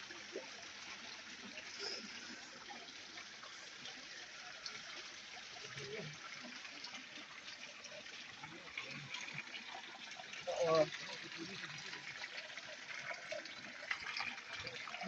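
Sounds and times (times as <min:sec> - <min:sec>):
stream water trickling: 0:00.0 - 0:15.0.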